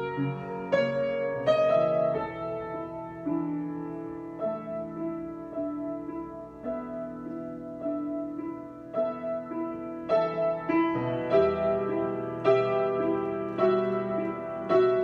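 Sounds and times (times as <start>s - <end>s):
slow piano improvisation: 0.0s - 15.0s.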